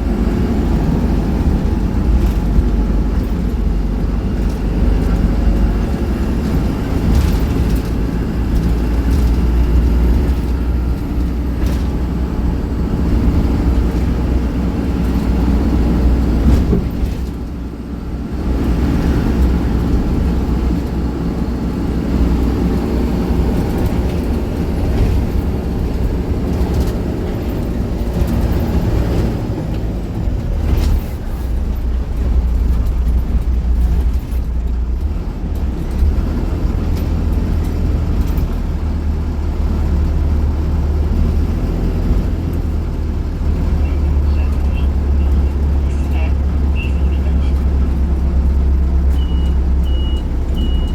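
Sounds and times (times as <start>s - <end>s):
bus engine and road rumble: 0.0s - 50.9s.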